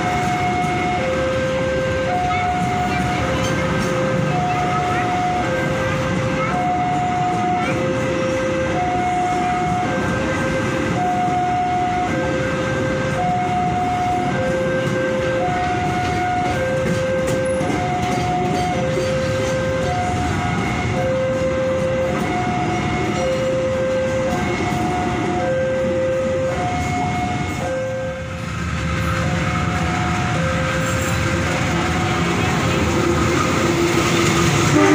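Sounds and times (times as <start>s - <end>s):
level crossing two-tone alarm: 0.0s - 34.9s
passenger train rumbling past: 0.0s - 34.9s.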